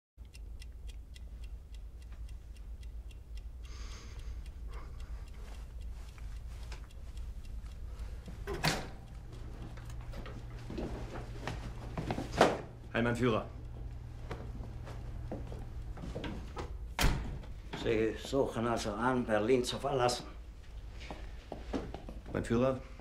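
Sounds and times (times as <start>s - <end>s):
clock ticking: 0.2s - 22.9s
low steady hum: 0.2s - 23.0s.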